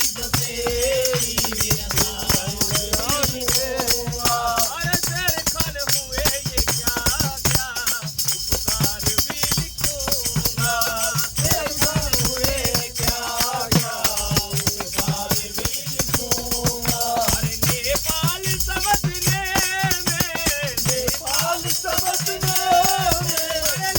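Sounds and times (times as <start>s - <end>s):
jingling hand percussion: 0.0s - 23.9s
men singing devotional song: 0.0s - 23.9s.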